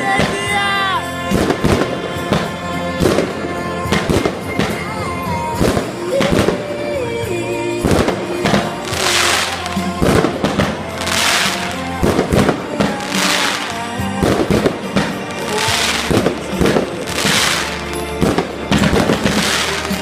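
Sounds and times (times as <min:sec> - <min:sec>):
fireworks bangs and crackling: 0:00.0 - 0:20.0
music playing: 0:00.0 - 0:20.0.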